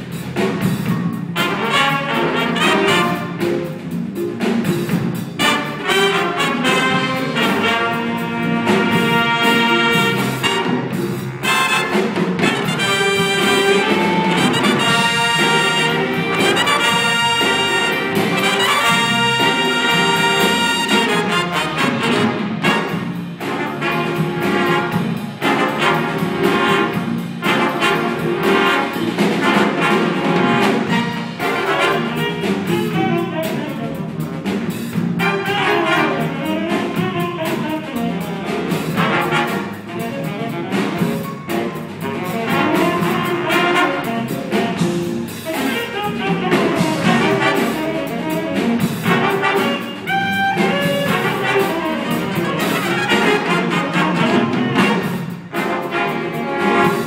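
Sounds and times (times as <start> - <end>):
big band jazz: 0.0 - 57.0.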